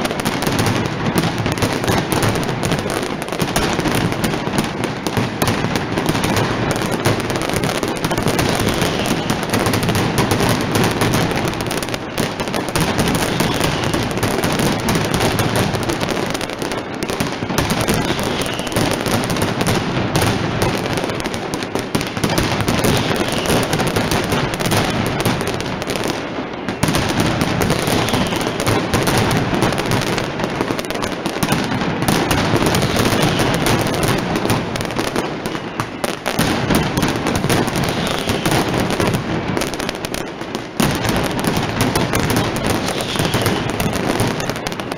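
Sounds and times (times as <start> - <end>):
firecrackers banging rapidly: 0.0 - 44.9.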